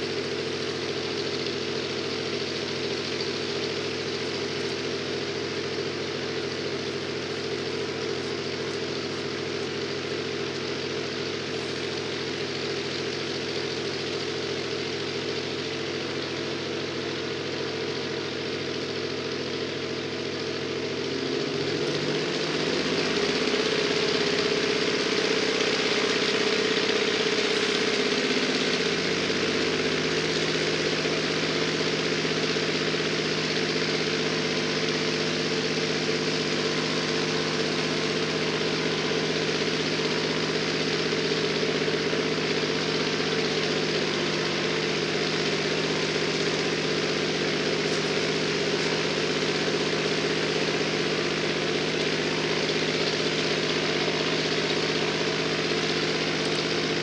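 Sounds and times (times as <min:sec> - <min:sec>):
aircraft radial engine running: 0:00.0 - 0:57.0.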